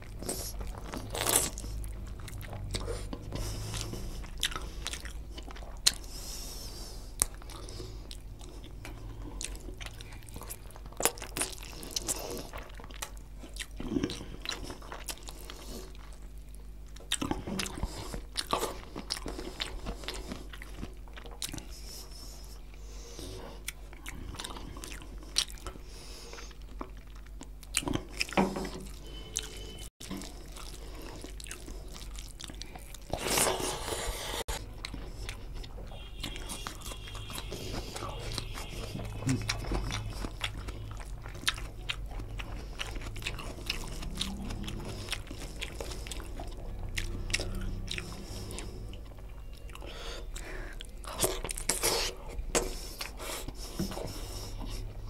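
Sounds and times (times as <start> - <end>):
chewing and lip smacks: 0.0 - 55.0
steady low hum: 0.0 - 55.0.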